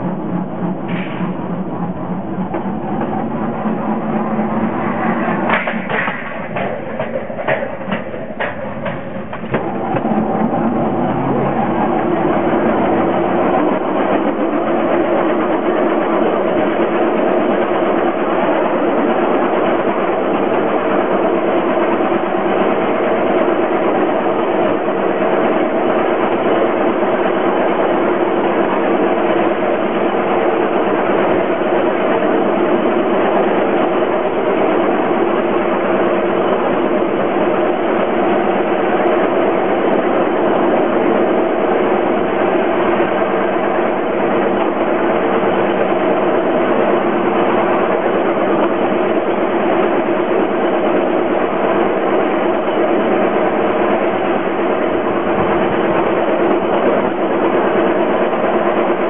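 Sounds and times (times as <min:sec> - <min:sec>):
rail trolley engine droning: 0:00.0 - 0:59.0.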